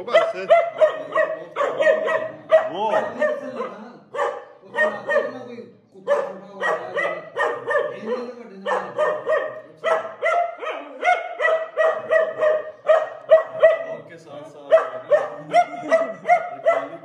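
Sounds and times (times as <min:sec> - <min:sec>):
puppy barking in high yaps: 0:00.0 - 0:05.4, 0:06.1 - 0:14.0, 0:14.7 - 0:17.0.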